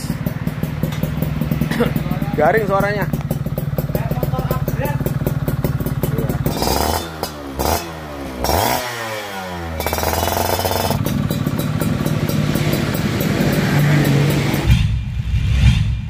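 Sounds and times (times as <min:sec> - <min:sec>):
two-stroke engine idling and revving: 0:00.0 - 0:16.0.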